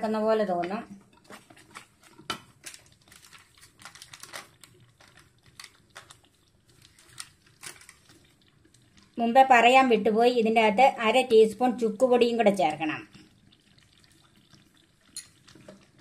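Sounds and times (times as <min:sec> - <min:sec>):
thick liquid simmering with pops: 0:00.0 - 0:16.0.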